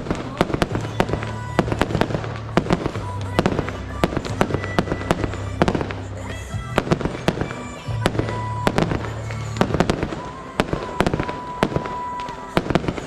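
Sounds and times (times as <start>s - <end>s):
fireworks bangs and crackles: 0.0s - 13.0s
music with steady bass line: 0.0s - 13.0s.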